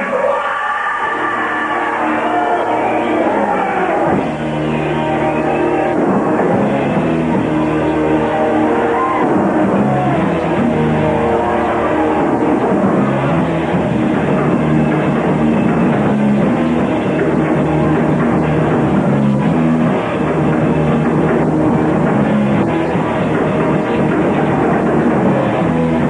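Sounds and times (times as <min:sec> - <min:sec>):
electric guitar: 0:01.0 - 0:26.0
bass guitar: 0:01.1 - 0:26.0
drum kit: 0:01.1 - 0:26.0.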